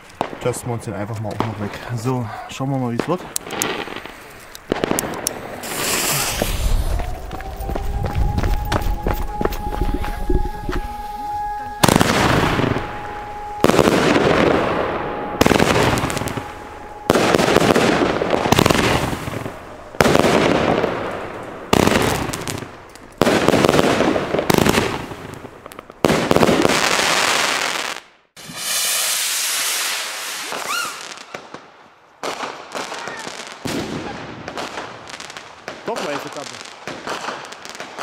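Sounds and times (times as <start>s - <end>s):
firework hiss and crackle: 0.0s - 38.0s
firework bangs: 2.8s - 38.0s.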